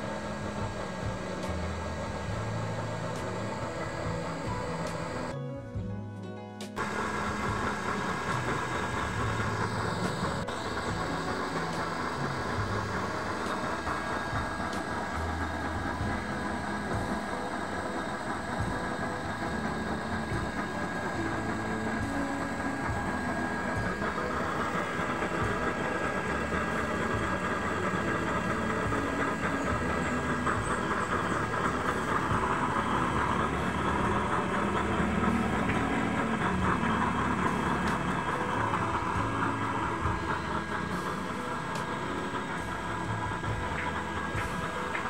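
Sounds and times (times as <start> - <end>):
oil burner flame rumbling: 0.0 - 45.0.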